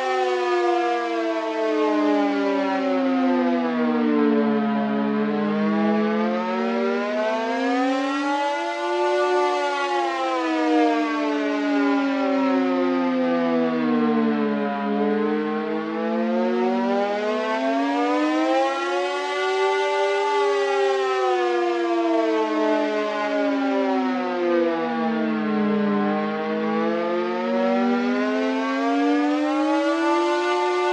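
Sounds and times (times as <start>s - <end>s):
civil defense siren wailing: 0.0s - 30.9s.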